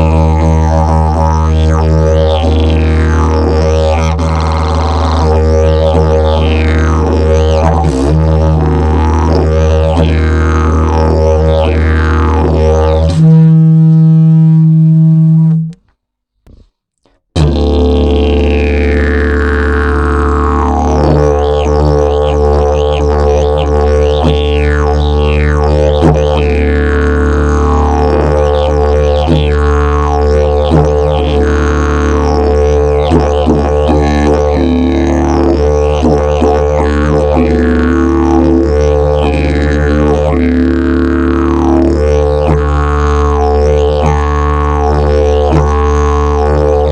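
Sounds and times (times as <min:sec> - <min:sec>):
didgeridoo drone: 0:00.0 - 0:15.8, 0:17.4 - 0:46.9.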